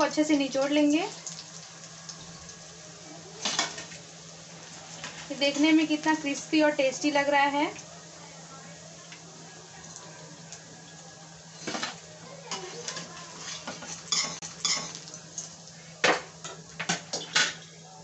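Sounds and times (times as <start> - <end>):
oil sizzling: 0.0 - 18.0.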